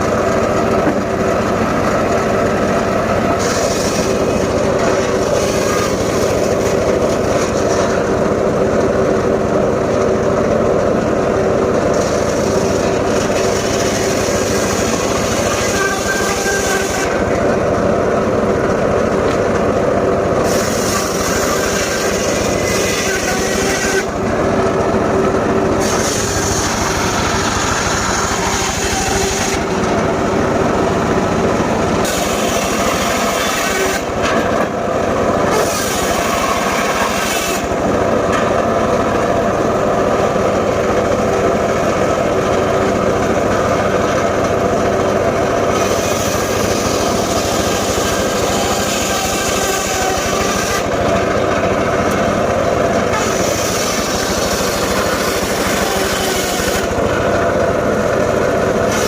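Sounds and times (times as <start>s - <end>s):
engine-driven saw cutting wood: 0.0s - 59.0s.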